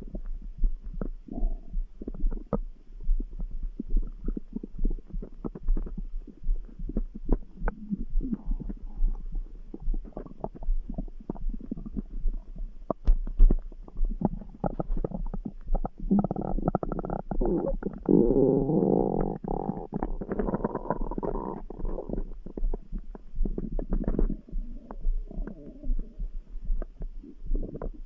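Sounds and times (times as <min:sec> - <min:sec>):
low heartbeat thuds: 0:00.0 - 0:18.3, 0:19.2 - 0:28.0
stomach gurgling: 0:00.0 - 0:28.0.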